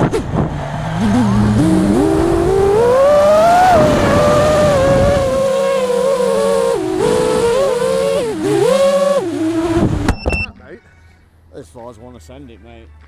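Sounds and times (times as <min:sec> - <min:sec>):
drone motors whining: 0:00.0 - 0:10.7.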